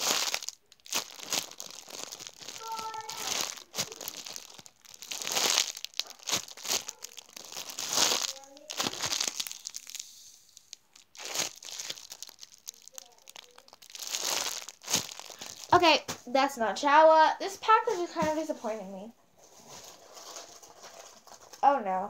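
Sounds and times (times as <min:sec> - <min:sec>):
plastic bag crinkling: 0:00.0 - 0:16.2, 0:19.4 - 0:21.6.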